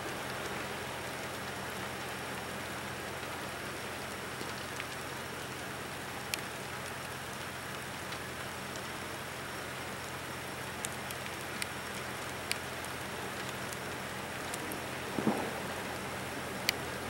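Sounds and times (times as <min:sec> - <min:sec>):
light rain hissing: 0:00.0 - 0:17.0
raindrops ticking: 0:00.1 - 0:17.0.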